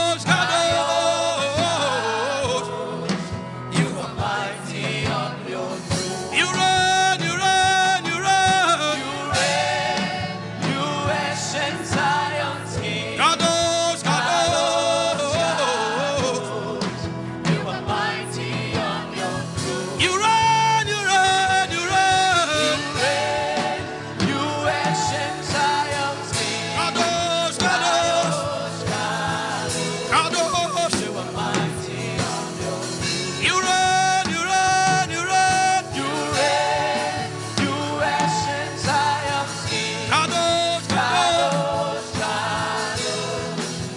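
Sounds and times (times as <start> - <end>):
band with steady beat: 0.0 - 43.9
congregation singing praise song: 0.0 - 43.9.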